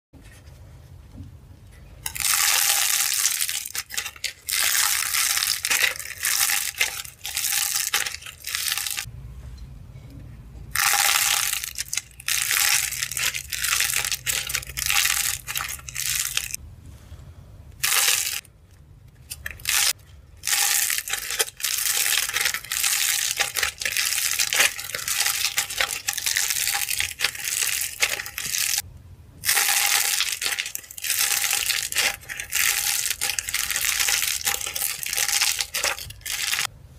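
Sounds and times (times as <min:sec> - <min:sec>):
dried clay crackling and crunching: 0:01.8 - 0:09.1, 0:10.7 - 0:16.6, 0:17.8 - 0:36.7.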